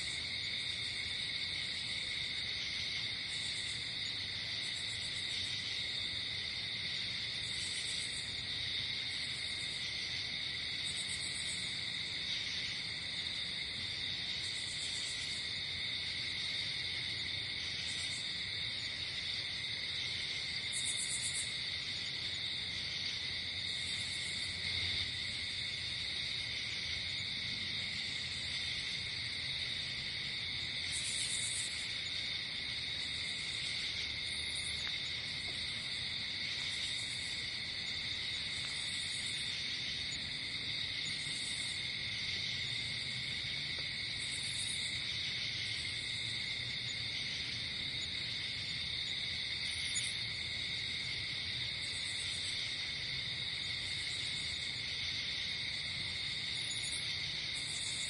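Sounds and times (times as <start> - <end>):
crickets trilling: 0.0 - 58.0
high insect chirping: 0.0 - 58.0.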